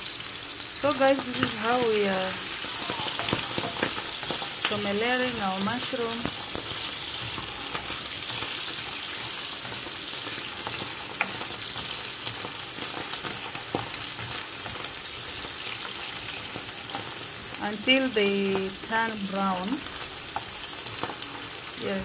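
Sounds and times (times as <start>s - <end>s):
mushrooms sizzling in hot oil: 0.0s - 22.0s.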